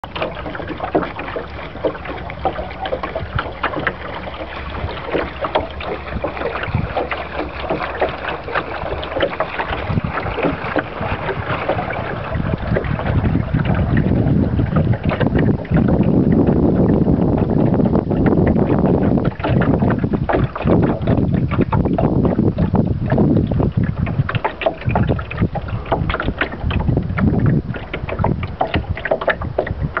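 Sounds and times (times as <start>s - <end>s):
water slapping boat hull: 0.0s - 30.0s
wind buffeting microphone: 0.0s - 30.0s.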